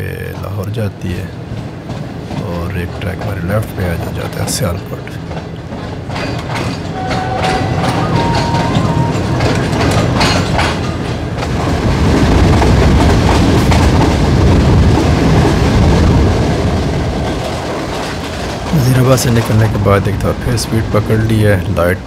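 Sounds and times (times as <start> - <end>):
train wheels clickety-clack: 0.0 - 22.0.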